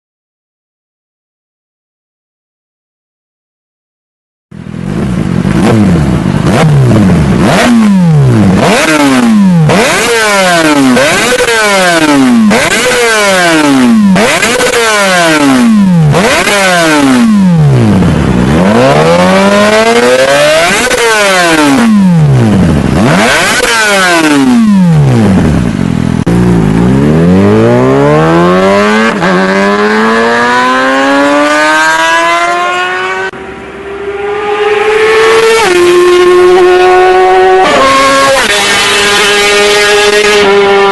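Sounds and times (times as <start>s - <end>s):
motorcycle engine revving: 4.6s - 40.9s.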